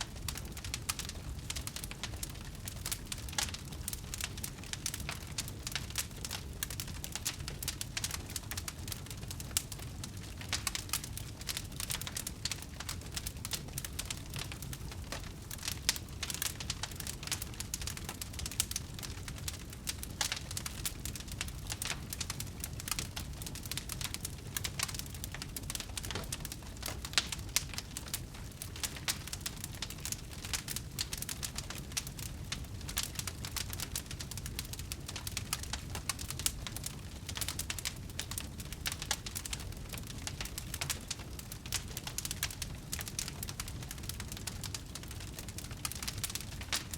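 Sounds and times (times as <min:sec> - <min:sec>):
low rumble of flames: 0:00.0 - 0:46.9
wood fire crackling and popping: 0:00.0 - 0:46.9.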